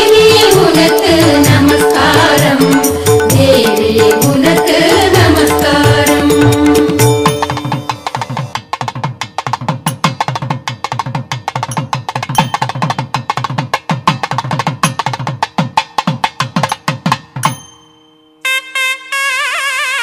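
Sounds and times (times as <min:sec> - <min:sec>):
rapid hand drum playing: 0:00.0 - 0:17.7.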